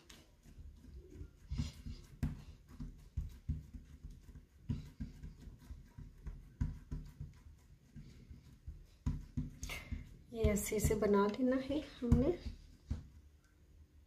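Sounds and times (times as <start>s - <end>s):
hands patting dough: 0.0s - 13.5s.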